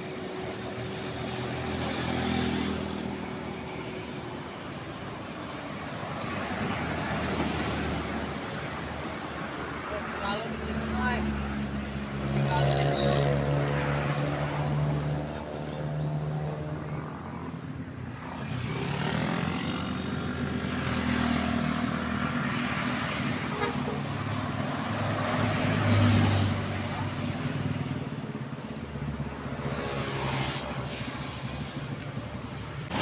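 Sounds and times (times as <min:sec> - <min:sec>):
bus engine hum and tyre noise: 0:00.0 - 0:33.0.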